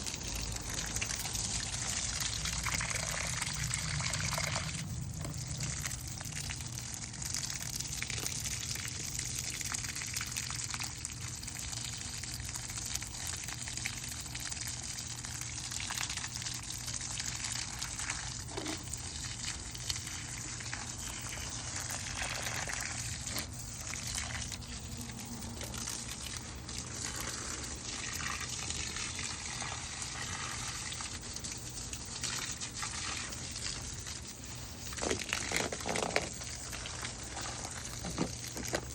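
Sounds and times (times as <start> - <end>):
water spraying onto plants: 0.0 - 38.9.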